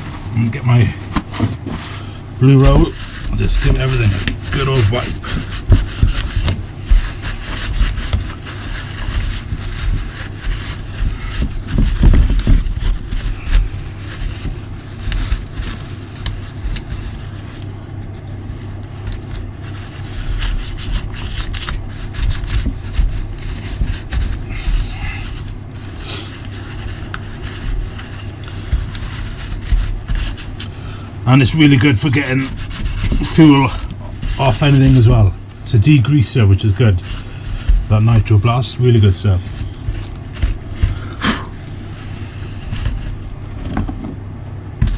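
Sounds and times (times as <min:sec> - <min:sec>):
paper towel rubbing and scraping: 0:00.0 - 0:44.9.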